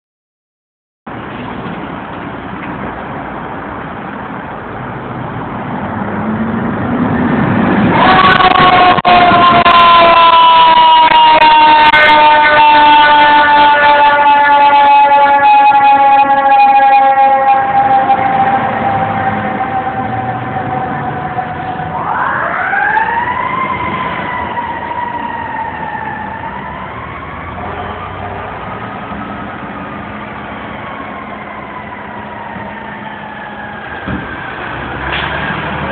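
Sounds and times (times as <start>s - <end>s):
bus driving past: 1.1s - 10.8s, 11.9s - 35.9s
street traffic: 1.1s - 35.9s
truck engine rumbling: 1.1s - 35.9s
fire truck siren wailing: 6.8s - 35.9s.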